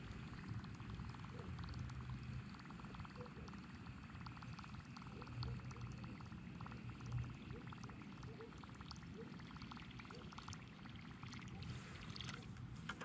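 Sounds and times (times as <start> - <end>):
fishing reel whirring and clicking: 0.0 - 11.6.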